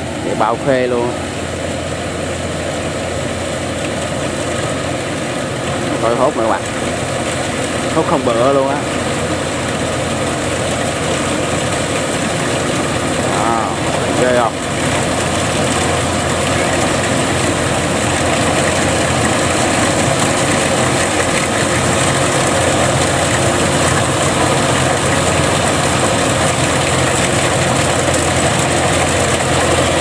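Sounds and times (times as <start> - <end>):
diesel engine drone: 0.0 - 30.0
harvester reel and drum clatter: 5.9 - 30.0.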